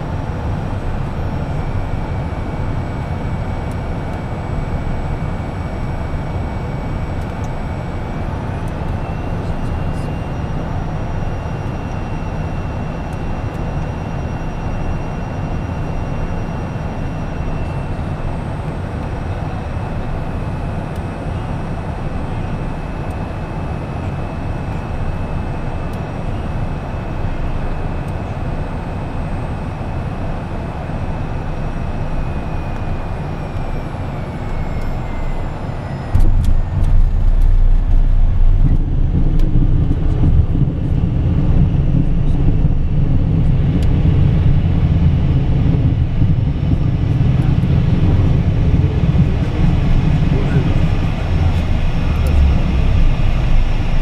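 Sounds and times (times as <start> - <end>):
jet engine whine and airflow: 0.0 - 54.0.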